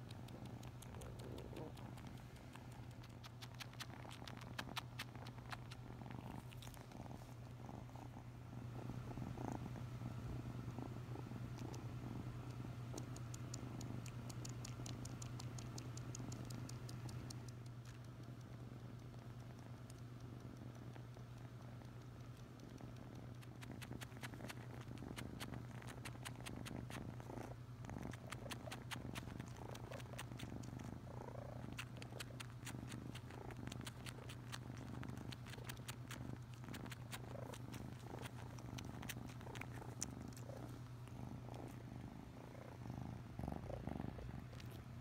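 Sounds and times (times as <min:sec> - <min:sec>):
kitten sucking clicks: 0:00.0 - 0:07.0, 0:11.5 - 0:41.8
kitten purring: 0:00.0 - 0:45.0.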